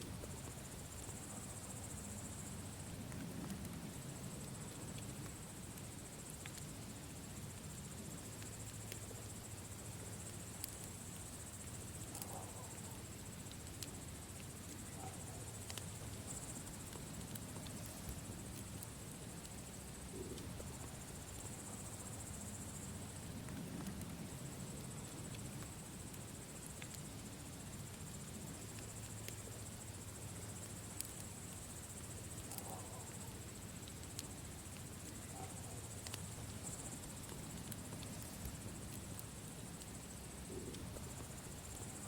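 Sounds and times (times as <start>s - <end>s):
campfire crackling: 0.0s - 42.0s
crickets trilling: 0.0s - 42.0s.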